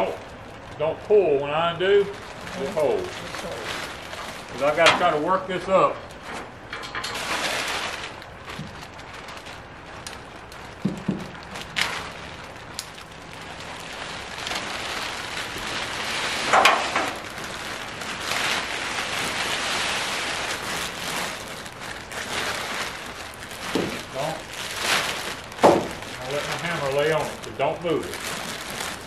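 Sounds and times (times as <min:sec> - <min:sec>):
house wrap rustling and crinkling: 0:00.0 - 0:29.0.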